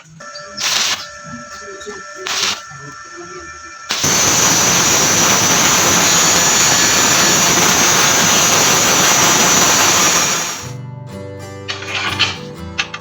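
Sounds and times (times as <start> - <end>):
angle grinder on steel: 0.2 - 10.8.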